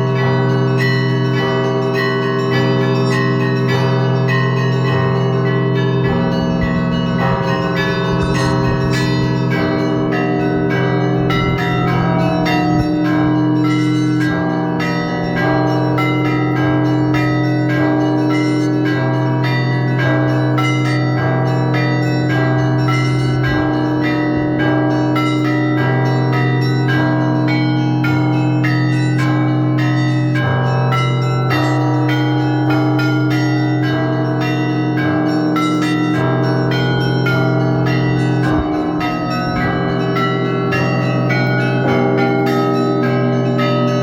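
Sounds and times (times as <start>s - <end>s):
bells struck in rapid rhythm: 0.0s - 44.0s
deep bells humming: 0.0s - 44.0s.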